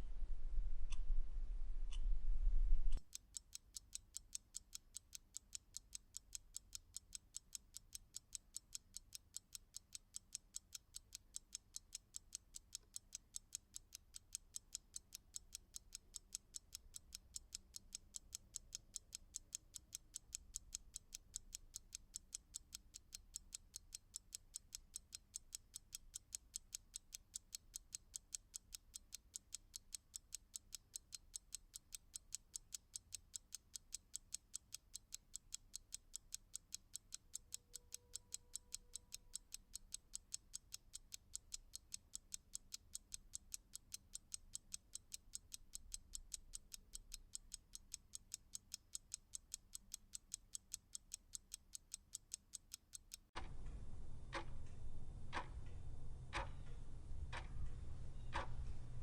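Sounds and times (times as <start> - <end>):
clock ticking rapidly: 3.1 - 55.7, 56.3 - 56.6, 58.3 - 58.7.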